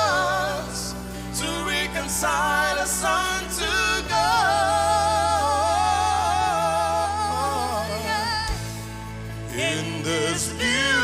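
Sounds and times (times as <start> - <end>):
bass and keyboard accompaniment: 0.0 - 11.0
gospel choir singing: 0.0 - 11.0.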